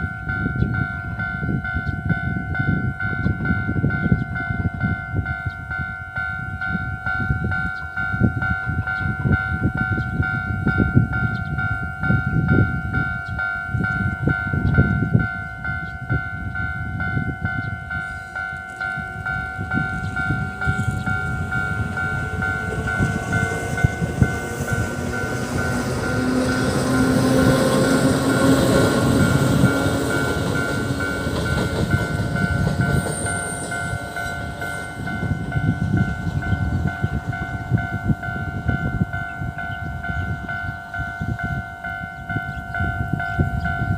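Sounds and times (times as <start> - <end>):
electric locomotive passing: 0.0 - 43.9
level crossing bell ringing: 0.2 - 43.9.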